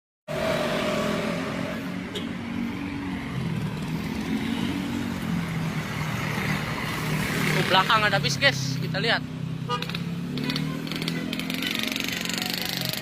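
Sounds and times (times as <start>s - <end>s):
road noise: 0.3s - 13.0s.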